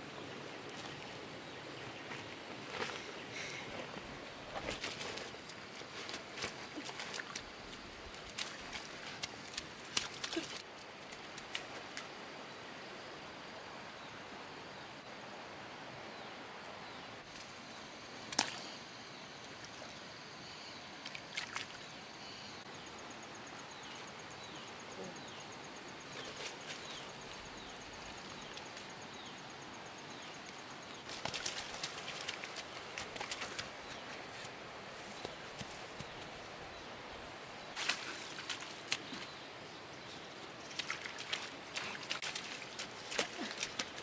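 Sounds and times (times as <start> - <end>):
stream water running: 0.0 - 44.0.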